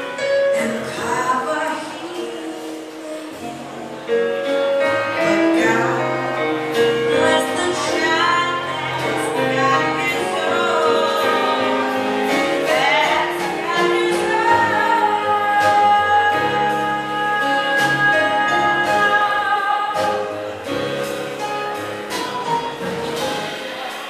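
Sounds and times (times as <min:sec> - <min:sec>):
live blues band playing: 0:00.0 - 0:24.0
person singing: 0:00.2 - 0:21.5.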